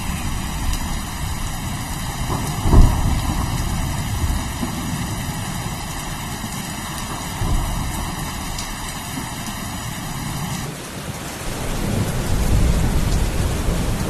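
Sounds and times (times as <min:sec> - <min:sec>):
low rolling thunder: 0:00.0 - 0:10.7, 0:11.4 - 0:14.0
steady rain: 0:00.0 - 0:14.0.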